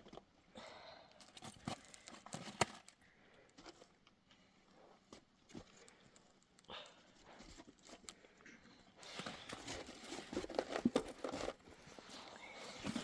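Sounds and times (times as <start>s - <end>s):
rustling and crackling handling: 1.2s - 13.0s.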